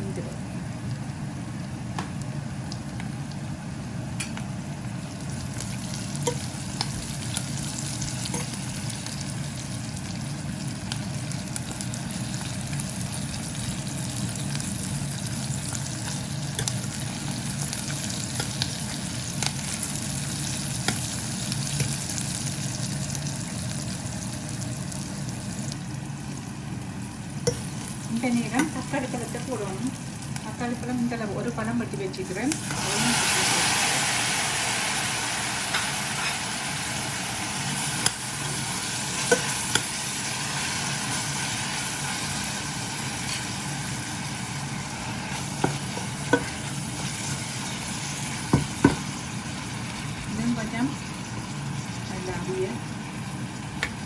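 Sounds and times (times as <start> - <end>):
onions frying in hot oil: 0.0 - 54.0.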